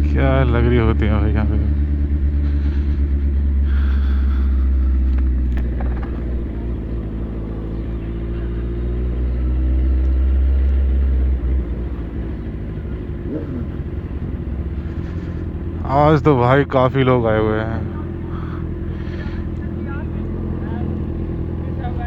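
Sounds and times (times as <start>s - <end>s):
vehicle engine running low speed: 0.0s - 22.0s.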